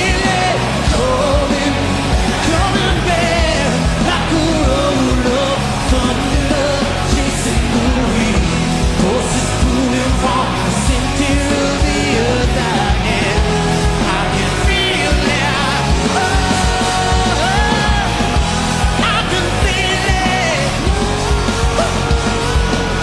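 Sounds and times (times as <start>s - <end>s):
drums: 0.0s - 23.0s
person singing: 0.0s - 23.0s
rock band playing: 0.0s - 23.0s.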